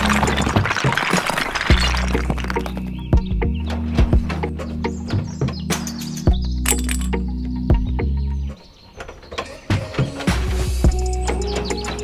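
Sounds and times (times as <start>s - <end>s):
background music with bass: 0.0s - 1.0s, 1.7s - 8.6s, 9.7s - 12.0s.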